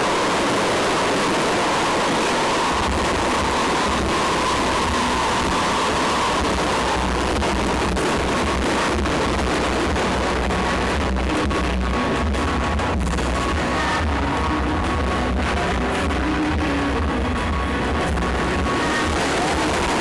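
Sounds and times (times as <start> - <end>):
firework bangs and crackles: 0.0 - 20.0
loud bass-heavy music: 0.0 - 20.0.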